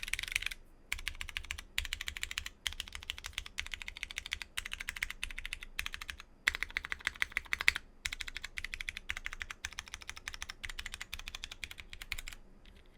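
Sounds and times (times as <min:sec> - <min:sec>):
mechanical keyboard typing: 0:00.0 - 0:12.9.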